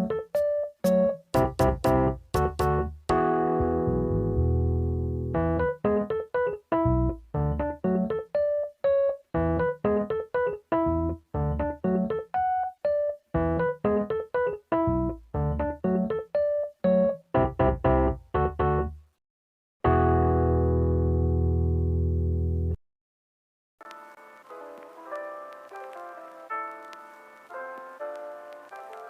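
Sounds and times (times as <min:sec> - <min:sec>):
keyboard tune: 0:00.0 - 0:19.1, 0:19.9 - 0:22.8, 0:23.8 - 0:29.0.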